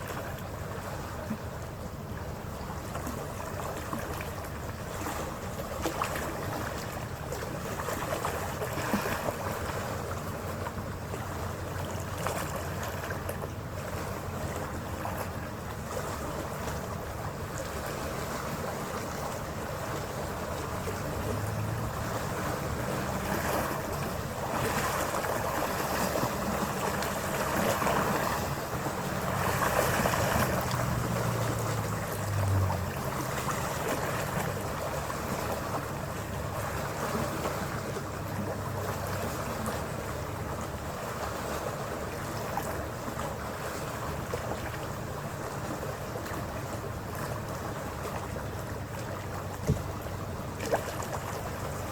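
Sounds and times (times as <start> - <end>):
ferry engine drone: 0.0 - 51.9
water rushing along hull: 0.0 - 51.9.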